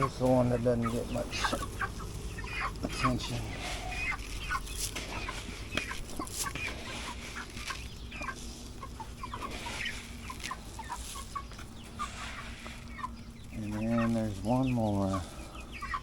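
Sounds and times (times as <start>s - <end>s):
chickens clucking and chirping: 0.0s - 16.0s.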